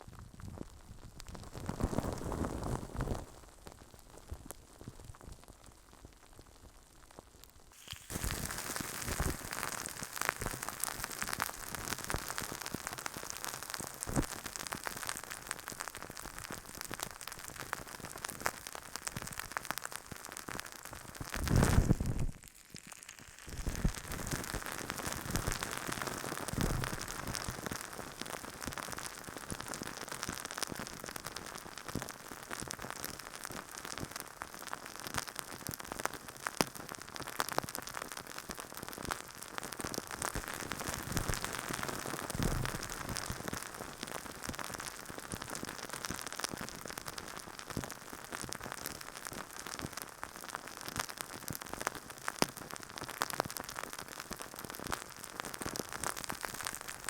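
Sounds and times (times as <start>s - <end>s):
crackling rustling on microphone: 0.0s - 57.0s.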